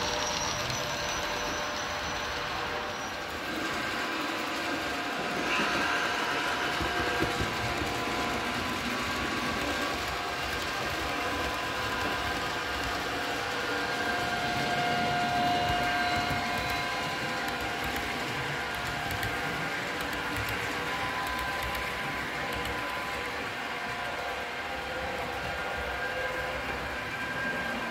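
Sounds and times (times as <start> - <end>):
model train wheels rumbling on rails: 0.0 - 27.9.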